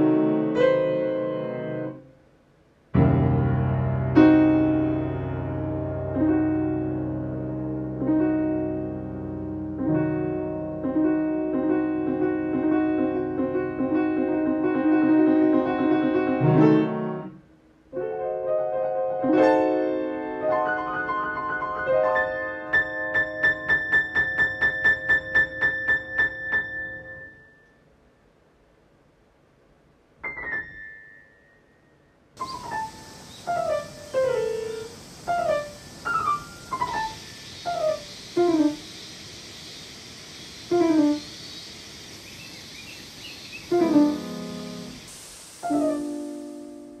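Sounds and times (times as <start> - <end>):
solo piano music: 0.0 - 2.1, 2.9 - 27.9, 30.2 - 38.9, 40.7 - 41.3, 43.5 - 47.0.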